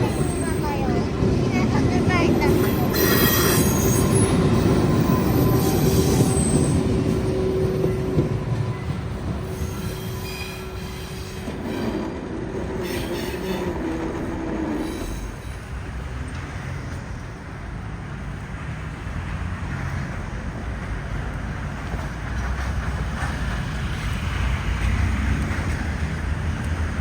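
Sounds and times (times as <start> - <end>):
train low rumble: 0.0 - 27.0
train wheel sound: 0.0 - 27.0.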